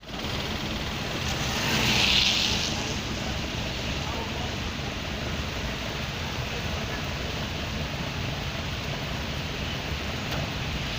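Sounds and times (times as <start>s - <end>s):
floodwater rushing: 0.1s - 10.9s.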